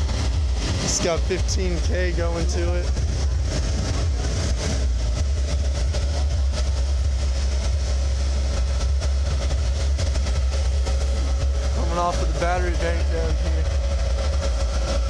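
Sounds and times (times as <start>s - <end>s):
subwoofer deep bass rumble: 0.0s - 15.0s.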